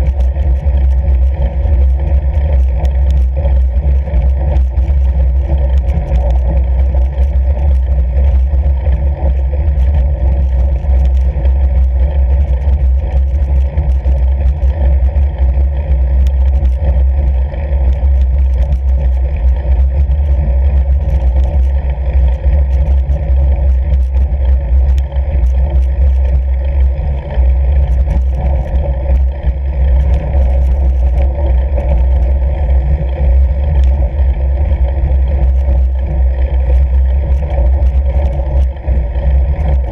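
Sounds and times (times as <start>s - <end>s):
bike rolling over snow: 0.0s - 39.9s
faint ticks: 0.0s - 39.9s.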